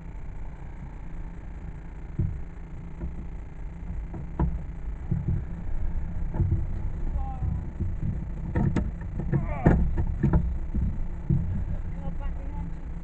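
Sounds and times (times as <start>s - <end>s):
car driving rumble: 0.0s - 13.0s
knocks and rattles: 2.1s - 12.7s.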